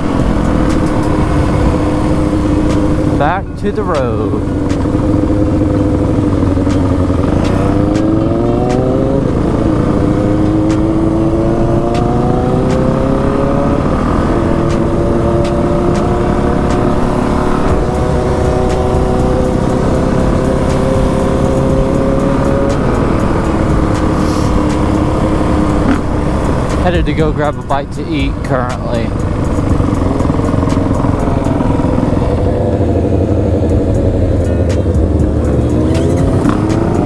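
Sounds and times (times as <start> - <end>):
dirt bike engine shifting gears: 0.0 - 37.0.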